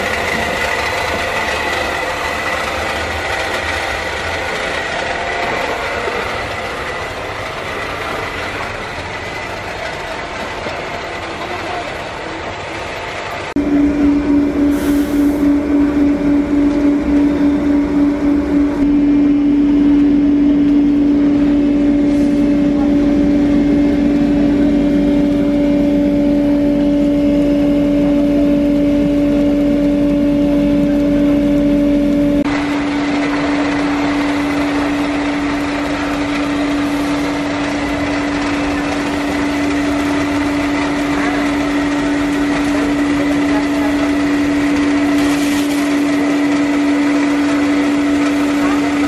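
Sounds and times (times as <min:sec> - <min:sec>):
roaster machine humming: 0:00.0 - 0:49.0.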